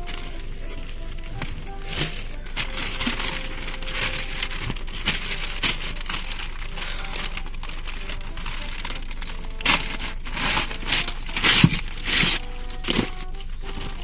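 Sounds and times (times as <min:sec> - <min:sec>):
wrapping paper crinkling: 0:00.0 - 0:14.0.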